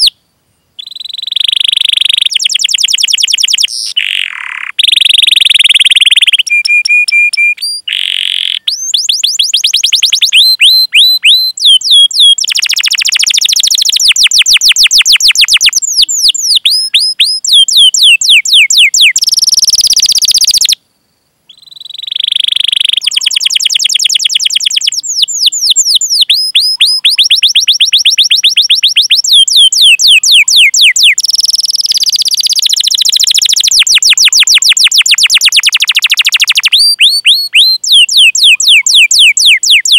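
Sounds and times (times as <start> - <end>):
canary singing trills: 0.0 - 0.2, 0.8 - 20.8, 21.5 - 39.9.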